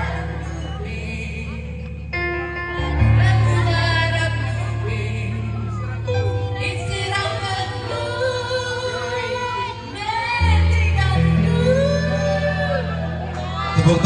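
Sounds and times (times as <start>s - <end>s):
amplified backing music with bass: 0.0s - 14.0s
woman singing into microphone: 0.0s - 14.0s.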